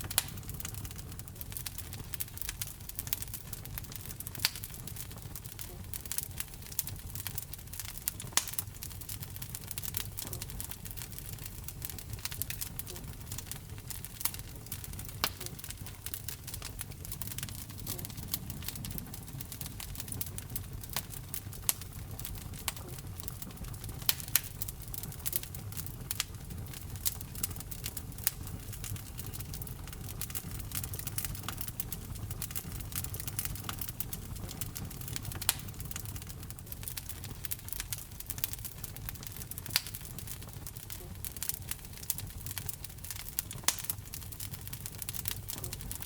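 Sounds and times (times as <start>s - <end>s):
fire crackling and popping: 0.0s - 46.0s
flames rumbling: 0.0s - 46.0s.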